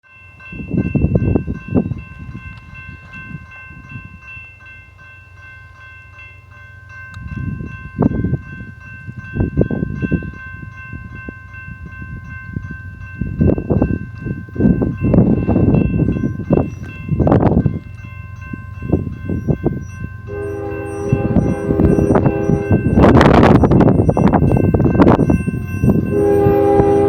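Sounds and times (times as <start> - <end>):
high ringing chord: 0.0 - 27.0
freight train rumble: 0.2 - 27.0.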